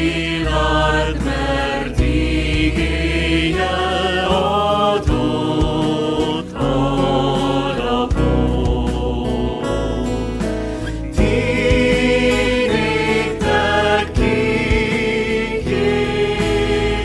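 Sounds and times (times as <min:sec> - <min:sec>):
choir singing a hymn: 0:00.0 - 0:17.0
electric guitars and keyboard: 0:00.0 - 0:17.0.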